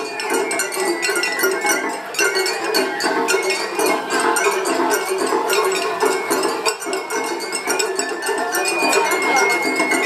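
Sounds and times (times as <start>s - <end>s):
drums: 0.0s - 10.0s.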